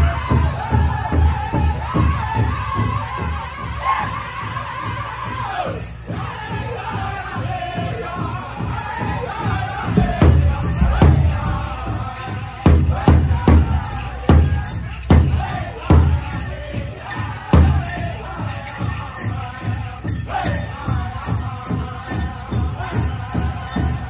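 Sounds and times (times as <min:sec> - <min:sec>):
big drum beats: 0:00.0 - 0:24.0
group of singers chanting: 0:00.0 - 0:24.0.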